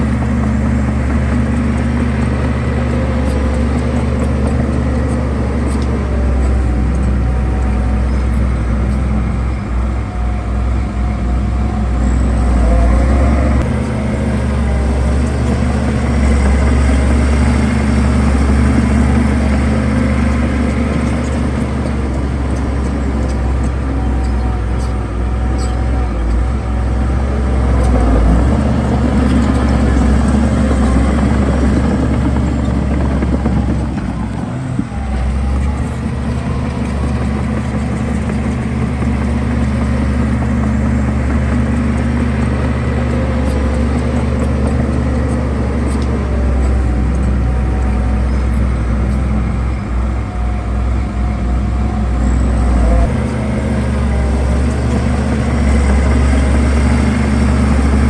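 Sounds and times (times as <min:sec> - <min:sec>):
heavy diesel engine drone: 0:00.0 - 0:58.0.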